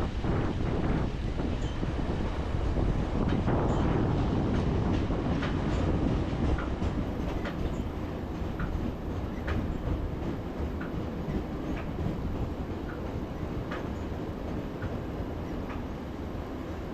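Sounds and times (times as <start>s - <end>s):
train wheels rumbling on track: 0.0s - 16.9s
high ticks from rail joints: 2.8s - 16.9s.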